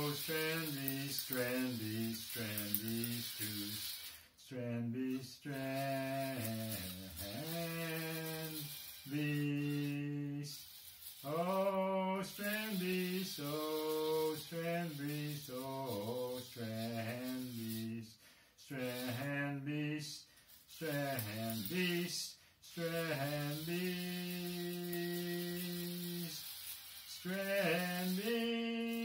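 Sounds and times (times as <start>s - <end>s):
man singing chant-like: 0.0s - 3.8s, 4.4s - 10.6s, 11.3s - 26.4s, 27.1s - 29.0s.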